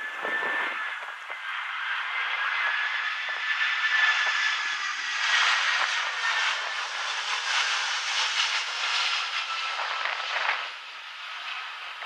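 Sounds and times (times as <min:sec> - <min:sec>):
jet engines passing: 0:00.0 - 0:12.0.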